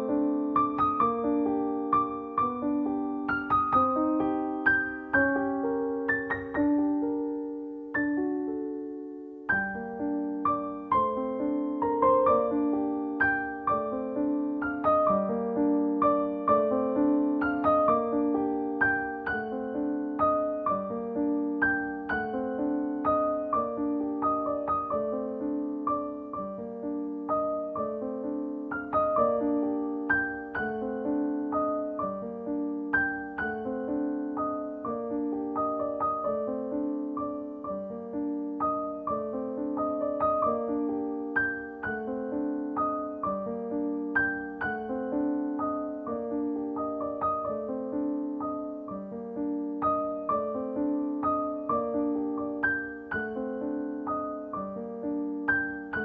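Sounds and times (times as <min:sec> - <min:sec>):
gentle piano piece: 0:00.0 - 0:56.0.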